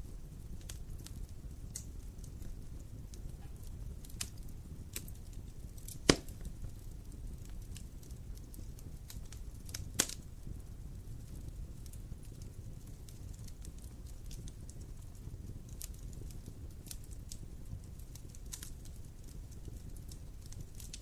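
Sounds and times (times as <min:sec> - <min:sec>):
loud fire pops: 0:00.0 - 0:21.0
small fire crackles: 0:00.0 - 0:21.0
wood fire rumbling: 0:00.0 - 0:21.0.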